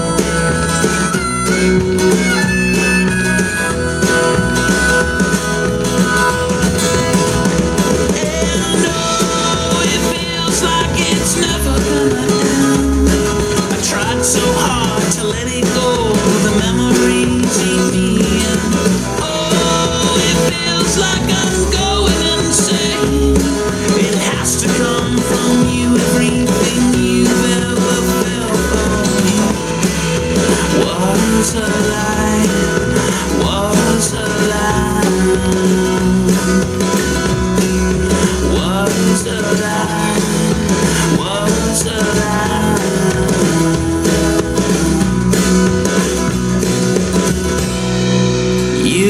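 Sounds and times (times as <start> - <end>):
rock-pop song through a speaker: 0.0 - 49.0.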